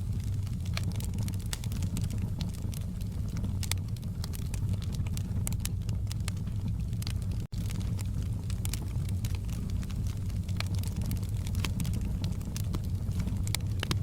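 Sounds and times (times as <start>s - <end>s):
fire crackling and popping: 0.0s - 14.0s
low fire rumble: 0.0s - 14.0s.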